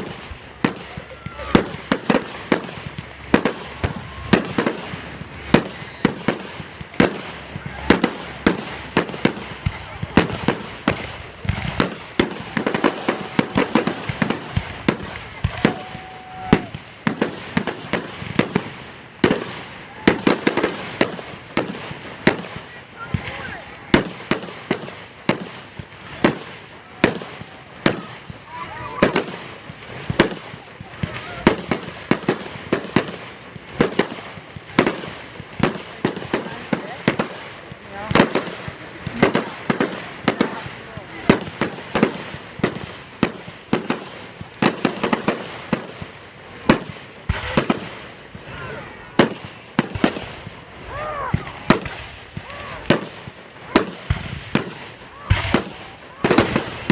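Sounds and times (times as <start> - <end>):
fireworks bangs and pops: 0.0 - 56.9.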